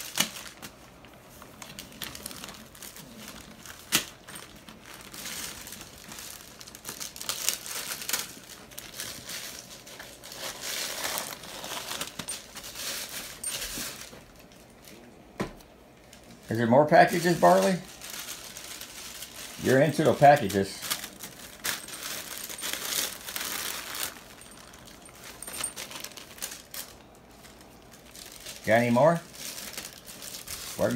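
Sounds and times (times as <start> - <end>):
plastic bag crack: 0.0 - 15.0, 16.0 - 30.9
plastic bag crinkling: 0.0 - 15.0, 16.0 - 30.9.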